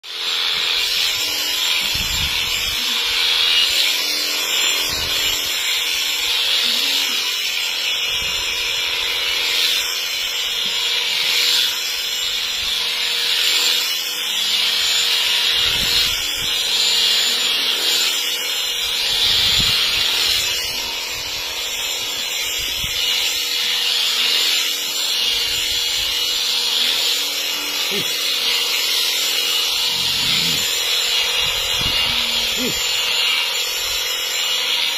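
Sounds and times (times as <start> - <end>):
electric shears buzzing: 0.0 - 34.9.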